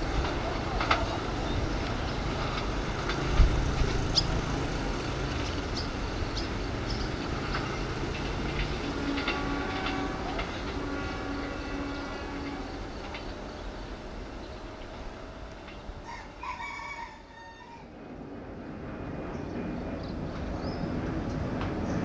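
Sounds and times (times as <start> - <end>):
train wheels rumbling and clicking: 0.0 - 16.6, 18.7 - 22.0.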